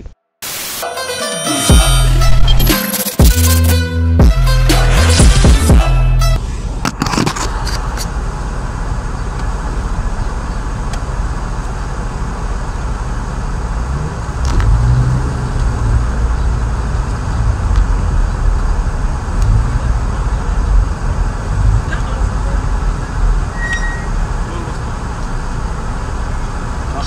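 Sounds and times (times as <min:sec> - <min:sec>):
engine and road rumble in car: 0:05.1 - 0:27.0.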